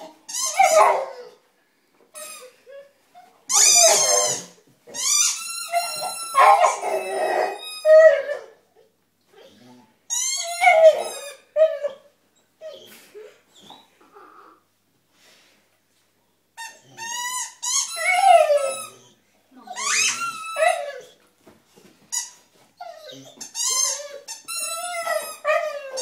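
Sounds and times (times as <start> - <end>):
dog whining and crying: 0.0 - 1.4, 2.2 - 14.5, 16.7 - 21.2, 22.2 - 26.0.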